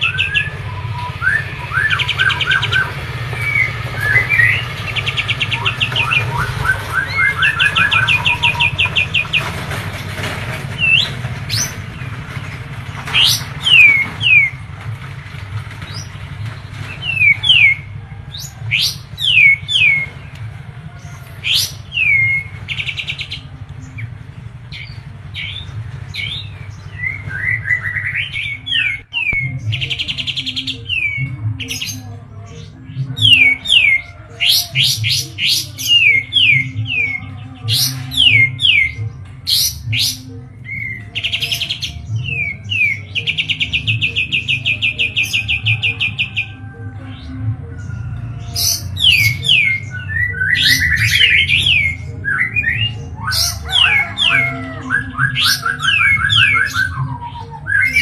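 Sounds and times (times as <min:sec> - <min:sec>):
bird singing whistled notes and trills: 0:00.0 - 0:14.8, 0:15.8 - 0:20.4, 0:21.1 - 0:58.0.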